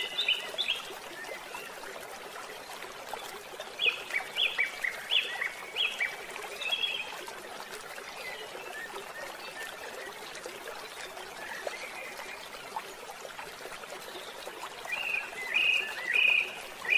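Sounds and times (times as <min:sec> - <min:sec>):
babbling stream: 0:00.0 - 0:16.9.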